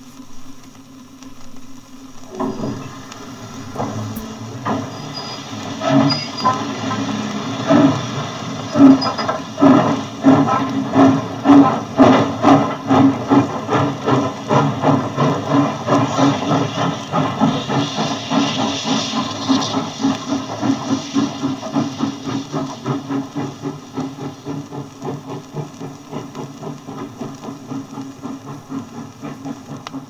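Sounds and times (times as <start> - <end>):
steam hiss: 0.0 - 30.0
steam locomotive exhaust beats: 0.0 - 30.0.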